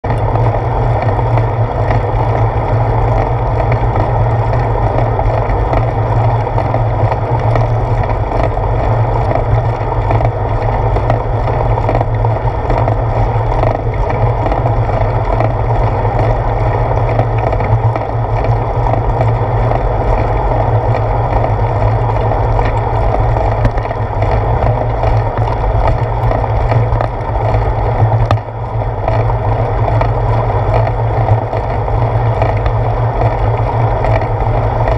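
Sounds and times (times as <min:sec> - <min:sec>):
bicycle tyres rumbling on road: 0:00.0 - 0:34.9.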